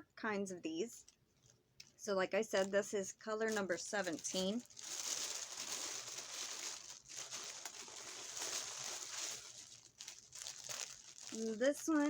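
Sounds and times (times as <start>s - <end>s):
packaging crinkling: 1.0s - 12.0s.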